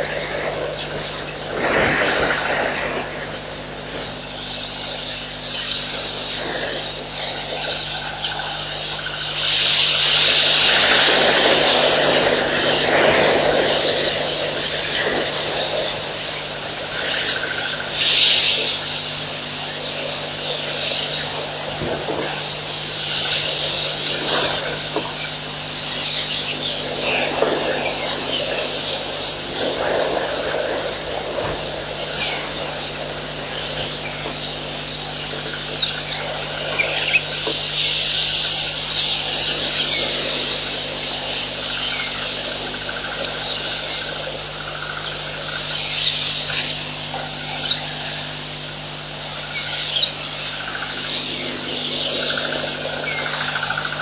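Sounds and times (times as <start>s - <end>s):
birds chirping and calling: 0.0s - 54.0s
steady low hum: 0.0s - 54.0s.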